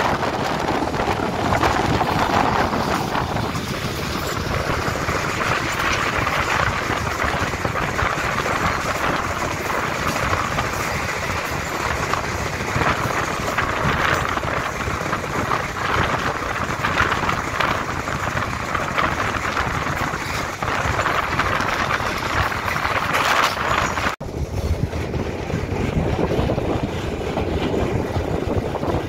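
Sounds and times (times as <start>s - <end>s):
train rumbling and rattling: 0.0s - 29.0s.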